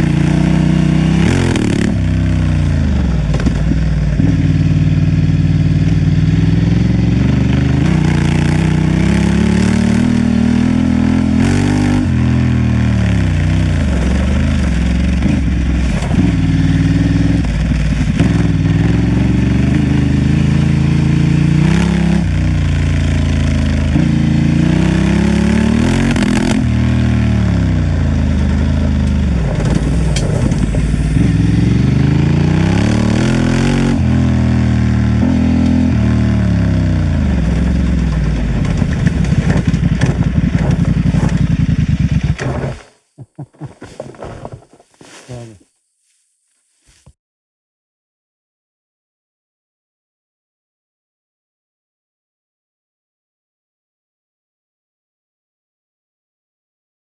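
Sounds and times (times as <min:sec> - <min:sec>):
motorcycle engine running: 0:00.0 - 0:47.1.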